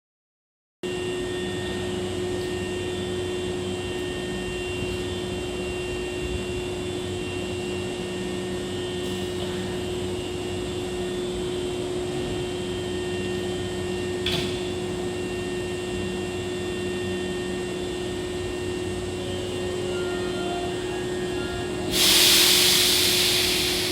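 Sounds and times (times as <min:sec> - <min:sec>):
electric train hum: 0:00.9 - 0:23.9.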